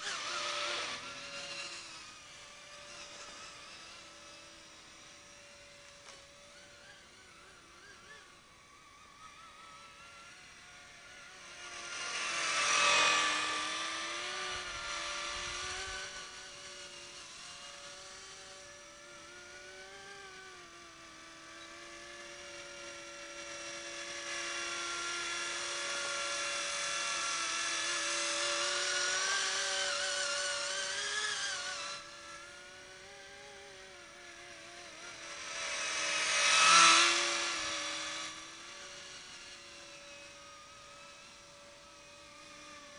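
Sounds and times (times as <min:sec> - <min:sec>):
model helicopter rotors whining: 0:00.0 - 0:42.9.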